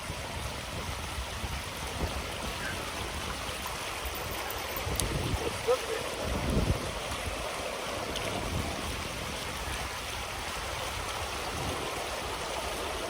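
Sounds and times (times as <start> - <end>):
river water over rapids: 0.0 - 13.0.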